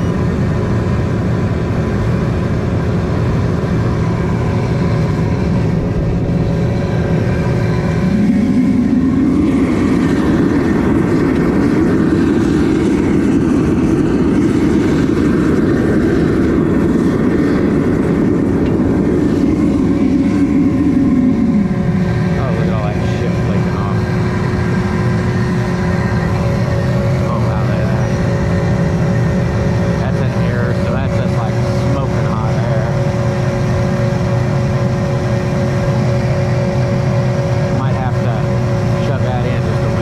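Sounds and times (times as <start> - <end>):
deep flame rumble: 0.0 - 40.0.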